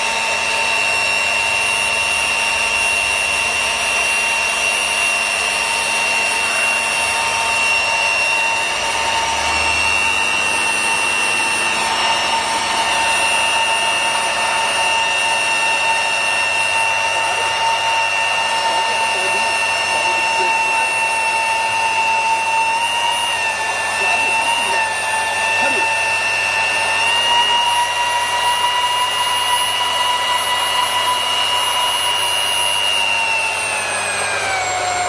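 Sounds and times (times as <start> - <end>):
high-pitched motor whine: 0.0 - 35.0.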